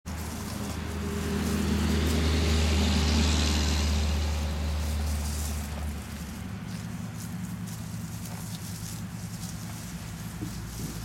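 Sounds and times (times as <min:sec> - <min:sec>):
tyre noise on road: 0:00.0 - 0:11.0
vehicle engine hum: 0:00.0 - 0:11.0.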